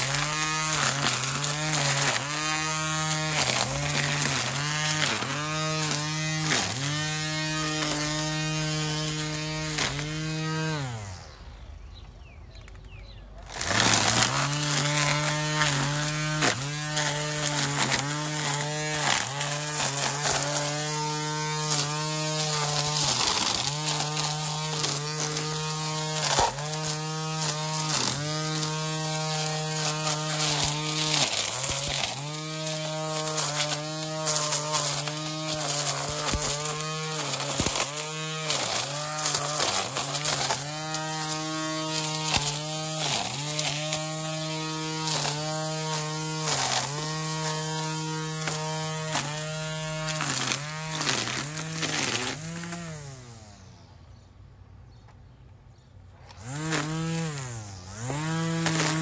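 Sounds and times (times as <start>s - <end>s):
string trimmer motor whining: 0.0s - 54.2s, 56.1s - 59.0s.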